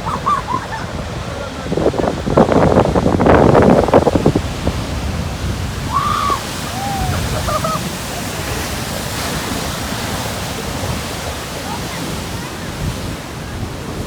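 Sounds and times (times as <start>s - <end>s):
surf washing over rocky shore: 0.0s - 14.0s
wind on microphone: 0.0s - 14.0s.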